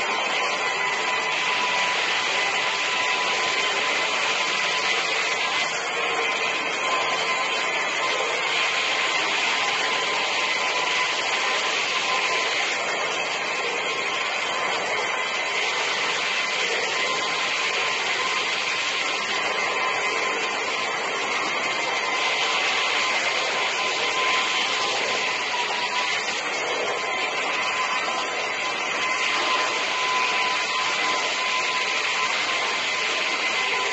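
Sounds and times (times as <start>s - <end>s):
wet vacuum whining: 0.0s - 33.9s.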